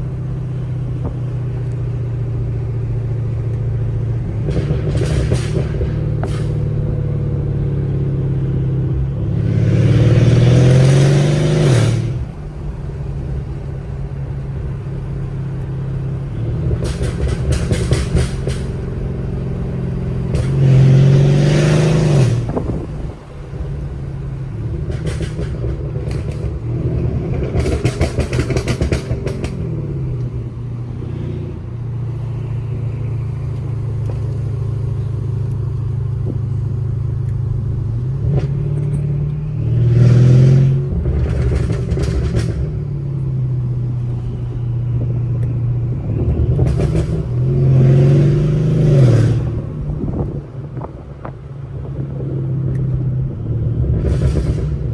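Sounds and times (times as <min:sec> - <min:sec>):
car exhaust revving: 0:00.0 - 0:54.9
exhaust crackling: 0:00.0 - 0:54.9.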